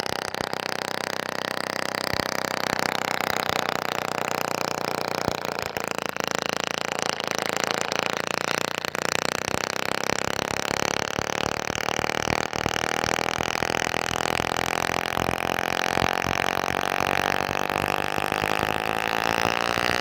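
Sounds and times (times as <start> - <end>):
small gasoline engine running: 0.0 - 20.0.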